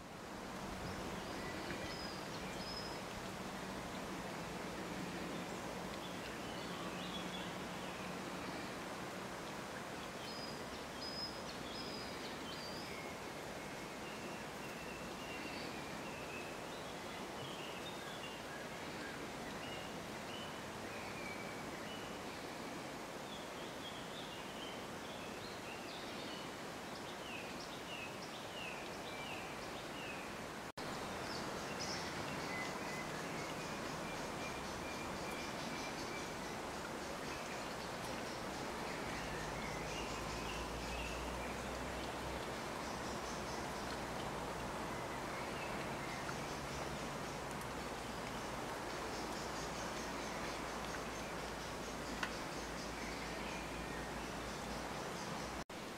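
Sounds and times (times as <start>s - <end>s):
steady outdoor hiss: 0.0s - 55.9s
songbirds chirping and trilling: 0.7s - 55.9s.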